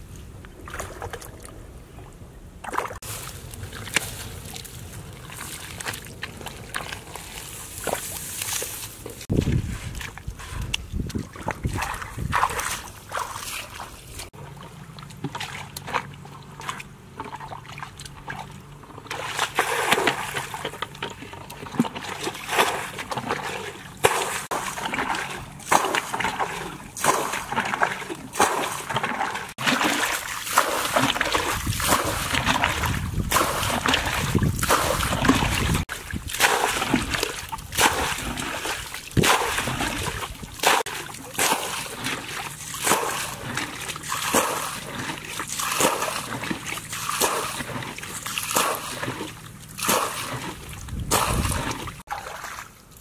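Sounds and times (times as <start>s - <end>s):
water splashing from bucket bailing: 9.3s - 53.0s.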